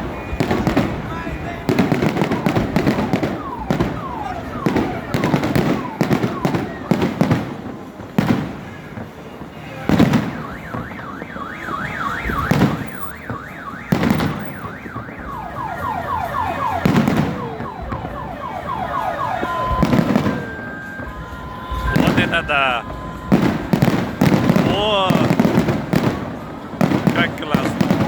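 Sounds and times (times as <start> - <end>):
car alarm: 0.0 - 9.1, 9.9 - 28.0
fireworks booming: 0.0 - 28.0.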